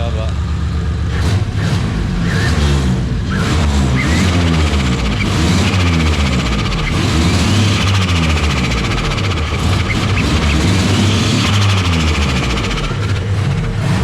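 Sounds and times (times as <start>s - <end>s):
car engine revving: 1.0s - 14.0s.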